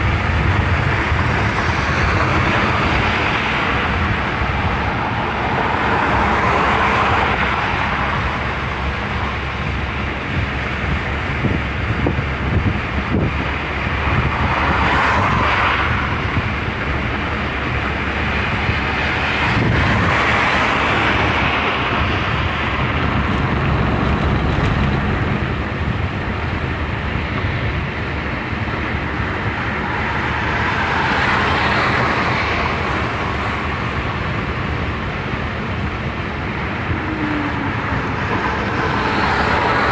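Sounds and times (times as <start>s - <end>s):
car tyre and wind noise: 0.0s - 39.9s.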